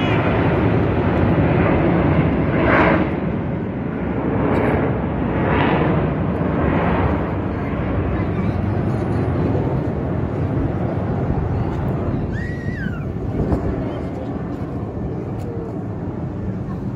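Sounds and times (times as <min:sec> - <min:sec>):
jet engines rumbling overhead: 0:00.0 - 0:16.9.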